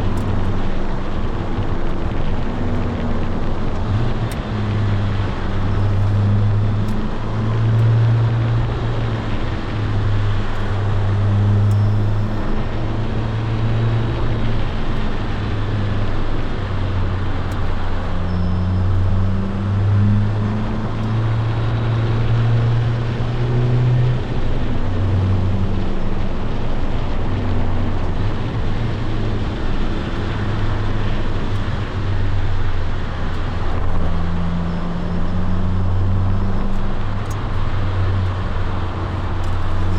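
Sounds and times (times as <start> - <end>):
car engine droning: 0.0 - 39.9
road and tyre noise: 0.0 - 39.9.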